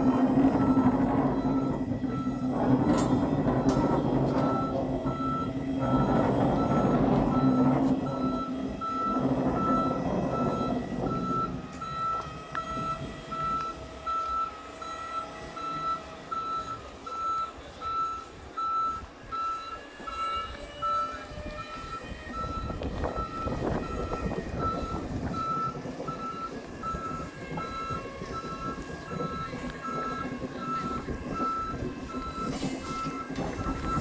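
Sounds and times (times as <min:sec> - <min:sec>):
metro train rumbling past: 0:00.0 - 0:34.0
repeating warning beep: 0:00.1 - 0:34.0.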